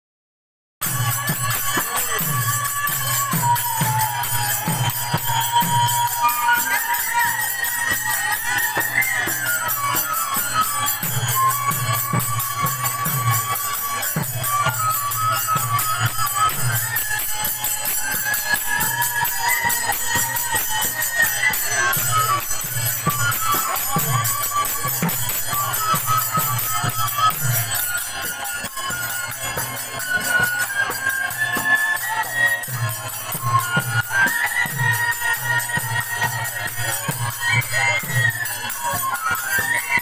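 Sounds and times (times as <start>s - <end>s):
drum beating: 0.8s - 38.4s
jingling hand cymbals: 0.8s - 40.0s.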